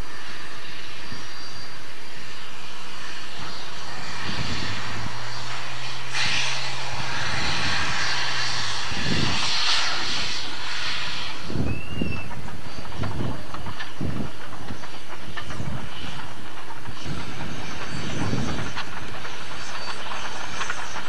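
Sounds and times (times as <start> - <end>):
steam locomotive hiss: 0.0 - 21.0.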